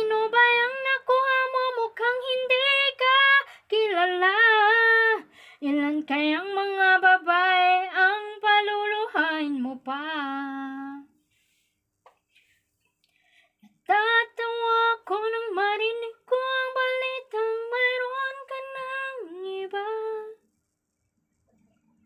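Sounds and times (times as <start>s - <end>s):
woman singing unaccompanied: 0.0s - 11.1s, 13.8s - 20.4s.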